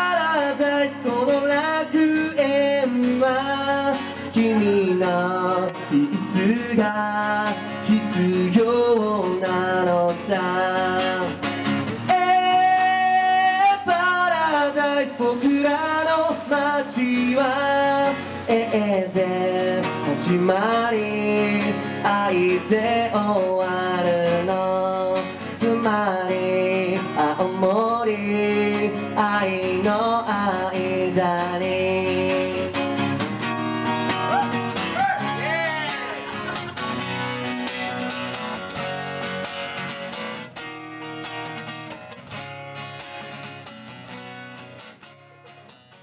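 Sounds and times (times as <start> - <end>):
strummed guitar: 0.0 - 46.0.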